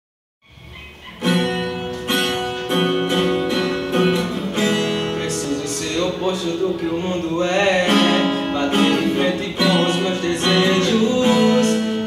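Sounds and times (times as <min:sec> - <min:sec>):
acoustic guitar strumming: 0:00.6 - 0:12.0.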